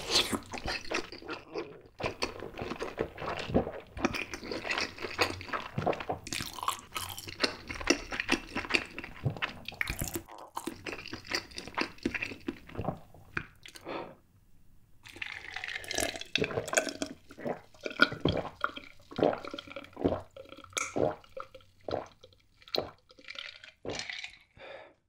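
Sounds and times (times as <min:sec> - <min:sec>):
person gulping a drink: 0:00.0 - 0:14.0, 0:15.0 - 0:24.9.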